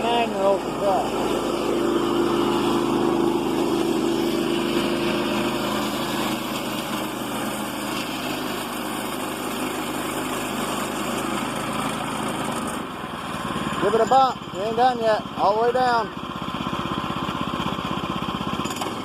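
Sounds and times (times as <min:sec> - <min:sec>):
saw blade cutting log: 0:00.0 - 0:16.1, 0:16.7 - 0:19.0
small gasoline engine running: 0:00.0 - 0:19.0.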